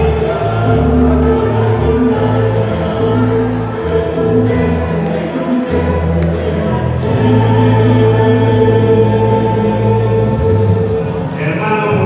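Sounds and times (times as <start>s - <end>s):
held chords: 0.0s - 11.6s
bass line: 0.0s - 12.0s.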